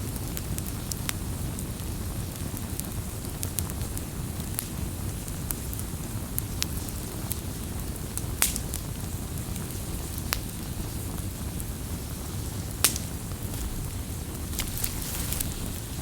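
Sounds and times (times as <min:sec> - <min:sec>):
campfire crackling and popping: 0:01.8 - 0:16.0.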